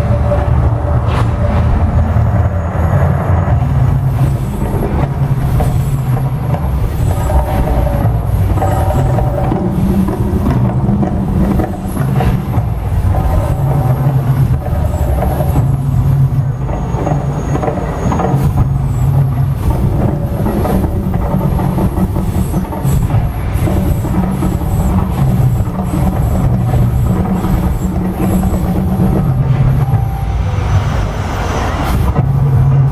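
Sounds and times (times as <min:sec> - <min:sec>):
deep continuous rumble: 0:00.0 - 0:32.9.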